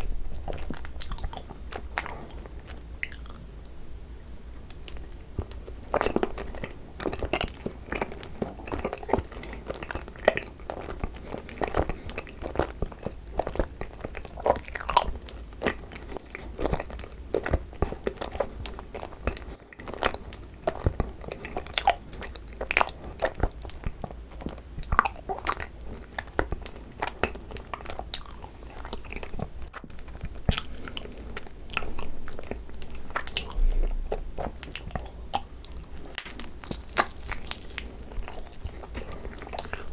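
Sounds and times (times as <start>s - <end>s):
chewing and biting rice cakes: 0.0s - 3.5s, 4.6s - 39.9s.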